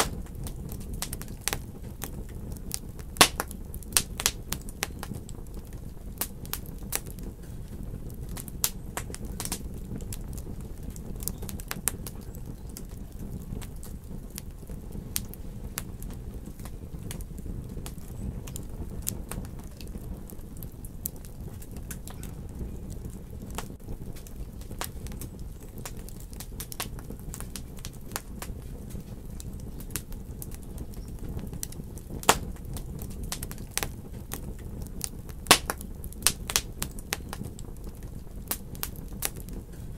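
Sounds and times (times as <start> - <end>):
fire flames rumbling: 0.0 - 39.9
wood fire crackling and popping: 0.0 - 39.9.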